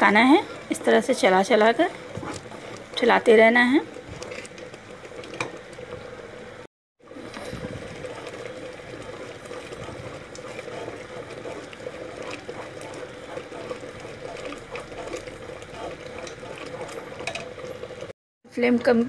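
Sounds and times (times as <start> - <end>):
thick sauce bubbling in pot: 0.0 - 6.4, 7.0 - 18.1
wooden spatula stirring: 0.0 - 6.4, 7.1 - 18.1.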